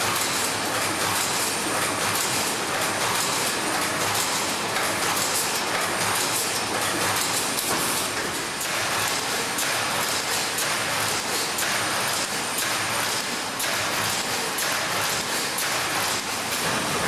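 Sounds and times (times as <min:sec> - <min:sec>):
welding machine clatter: 0:00.0 - 0:17.0.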